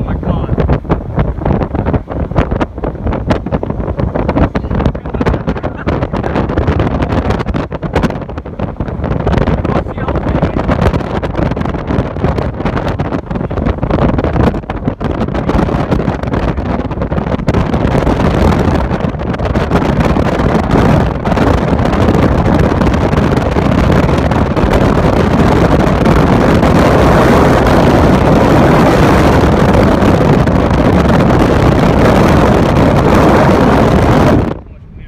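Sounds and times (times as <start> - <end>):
strong wind blasting microphone: 0.0 - 35.0.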